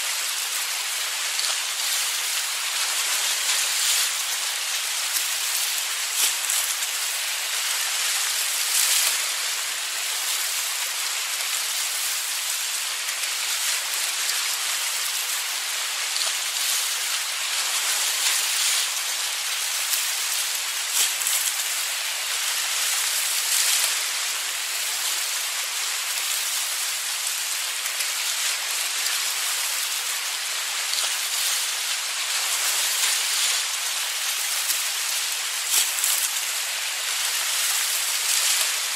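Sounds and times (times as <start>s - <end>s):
waves breaking on beach: 0.0s - 38.9s.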